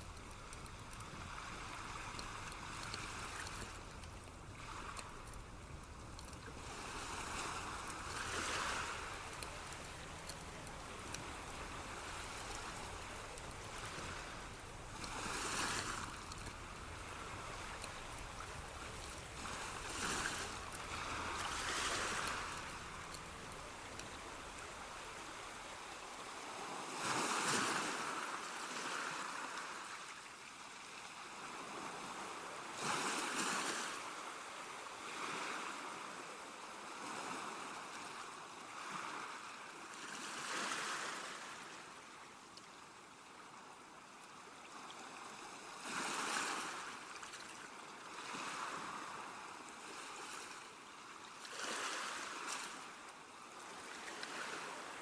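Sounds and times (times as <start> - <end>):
rushing water washing like waves: 0.0 - 55.0.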